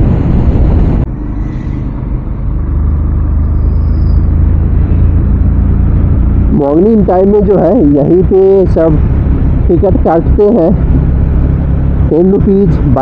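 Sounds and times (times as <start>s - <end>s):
wind rush: 0.0s - 6.6s, 7.9s - 13.0s
motorcycle engine: 0.0s - 13.0s.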